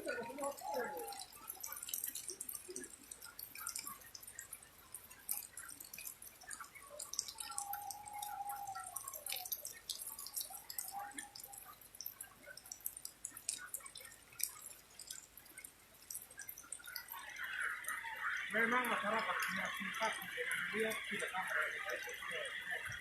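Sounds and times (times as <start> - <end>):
raindrops dripping and tapping: 0.0 - 23.0.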